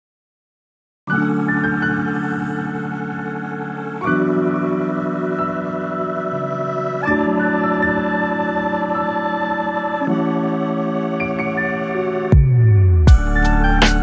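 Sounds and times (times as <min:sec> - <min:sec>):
sustained keyboard chords: 0:01.1 - 0:14.0.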